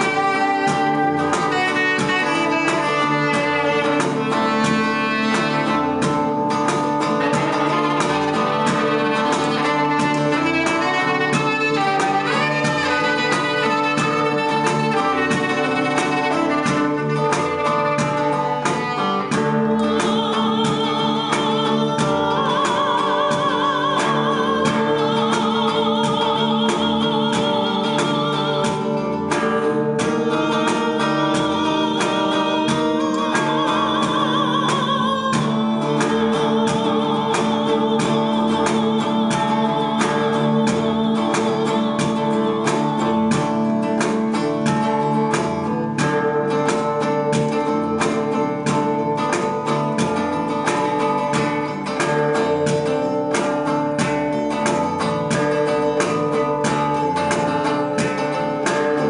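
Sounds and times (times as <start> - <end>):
electric guitar picked: 0.0 - 59.0
woman singing with vibrato: 0.0 - 59.0.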